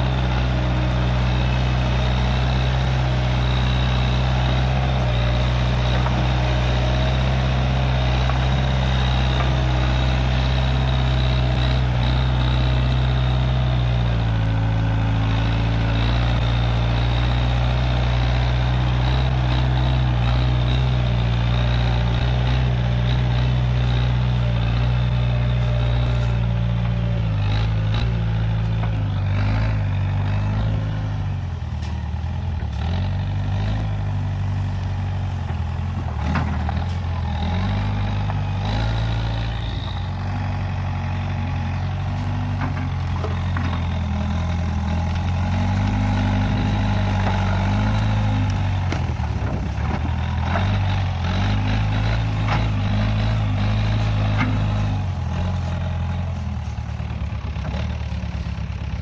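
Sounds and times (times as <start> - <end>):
backhoe diesel engine working: 0.0 - 59.0.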